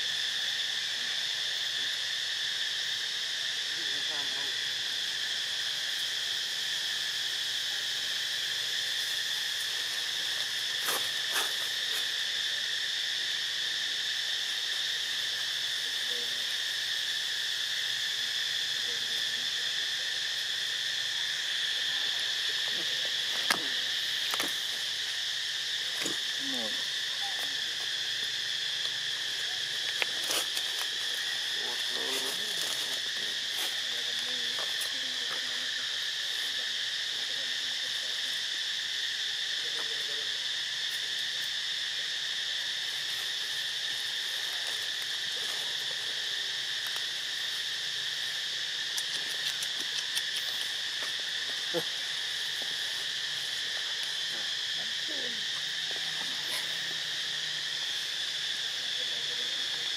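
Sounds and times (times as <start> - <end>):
shrill insect chorus: 0.0 - 59.9.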